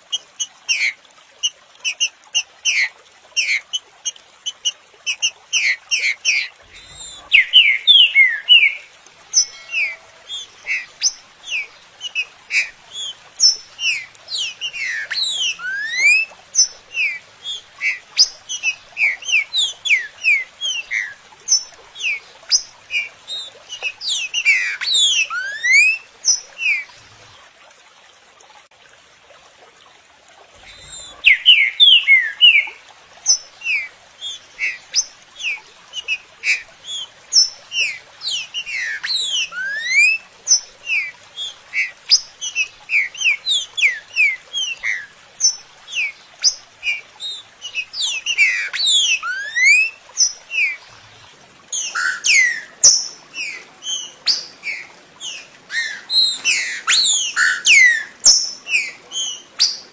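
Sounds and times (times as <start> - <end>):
bird song with whistled notes: 5.1 - 26.8, 30.6 - 50.8, 51.7 - 59.9.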